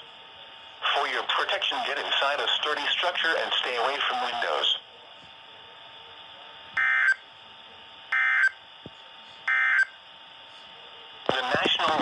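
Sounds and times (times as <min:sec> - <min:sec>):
faint radio hiss: 0:00.0 - 0:08.0, 0:10.2 - 0:12.0.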